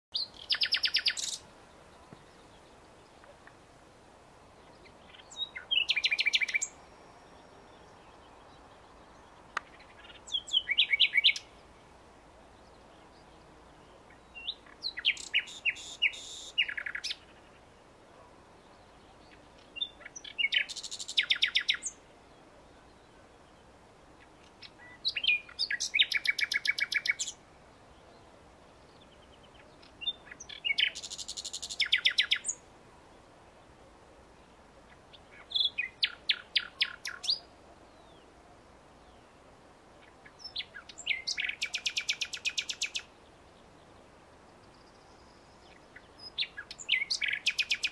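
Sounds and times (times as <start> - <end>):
nightingale singing: 0.1 - 3.6, 4.6 - 11.8, 12.6 - 22.0, 24.2 - 27.4, 28.0 - 32.6, 34.8 - 39.4, 40.0 - 47.9.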